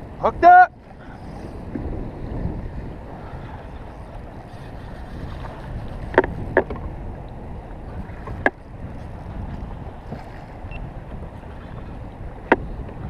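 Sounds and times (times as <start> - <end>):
steady rushing noise: 0.0 - 13.0
water lapping against hull: 0.0 - 13.0.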